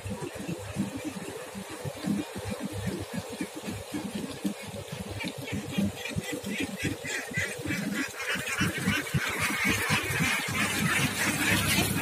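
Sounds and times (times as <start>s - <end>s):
ducks quacking: 2.2s - 12.0s.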